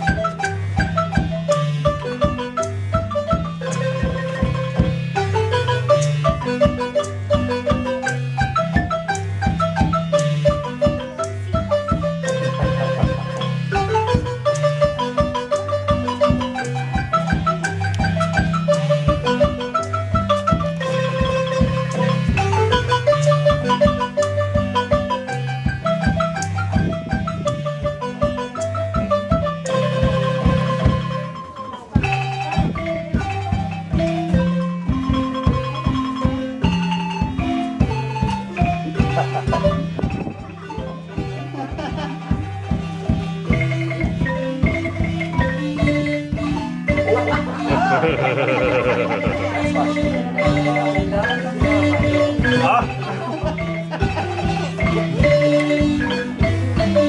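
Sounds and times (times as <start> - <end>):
marimba notes: 0.0 - 57.0
steady beat: 0.0 - 57.0.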